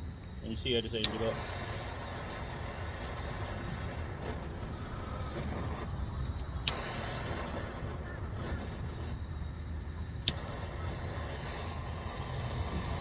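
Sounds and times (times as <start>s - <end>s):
gas torch flame rushing: 0.0s - 13.0s.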